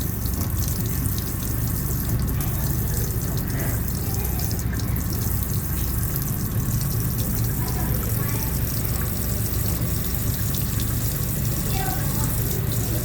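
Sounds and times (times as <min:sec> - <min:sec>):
water running from tap: 0:00.0 - 0:13.0.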